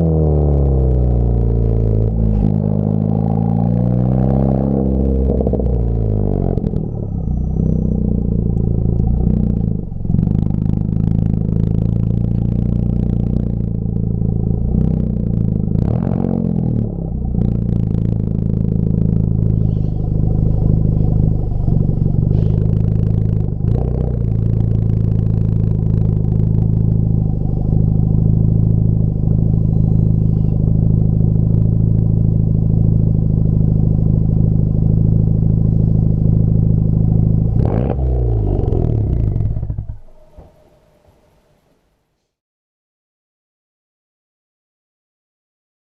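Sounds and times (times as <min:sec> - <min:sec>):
car exhaust drone: 0:00.0 - 0:41.9.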